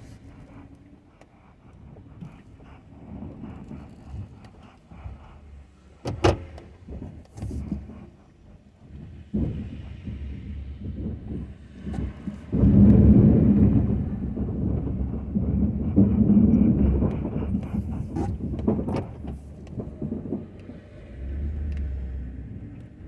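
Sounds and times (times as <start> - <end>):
pickup engine rumble: 0.0 - 23.0.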